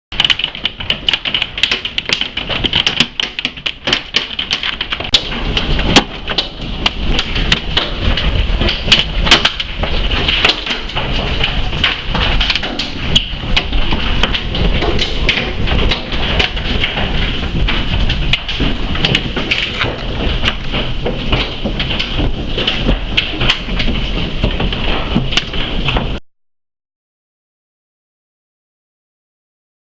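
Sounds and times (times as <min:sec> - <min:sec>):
hailstones striking hard surfaces: 0:00.2 - 0:26.2
heavy rain: 0:00.2 - 0:26.2.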